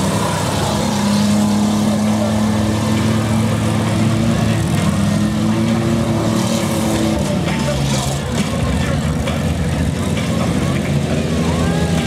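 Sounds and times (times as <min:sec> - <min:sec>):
engines droning loudly: 0:00.0 - 0:12.0
vans moving in dirt: 0:00.0 - 0:12.0.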